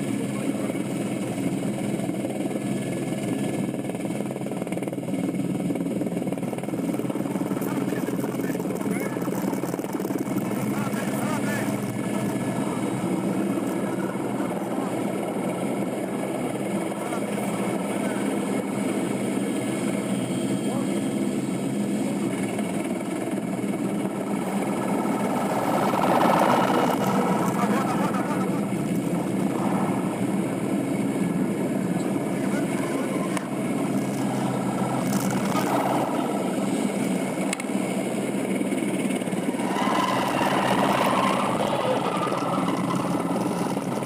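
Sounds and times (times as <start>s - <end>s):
helicopter engine and rotors droning: 0.0s - 44.0s.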